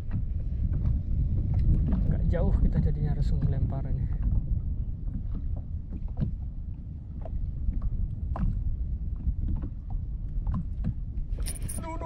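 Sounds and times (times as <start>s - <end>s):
choppy sea: 0.0s - 12.0s
water lapping against boat hull: 0.0s - 12.0s
wind rumbling on microphone: 0.0s - 12.0s.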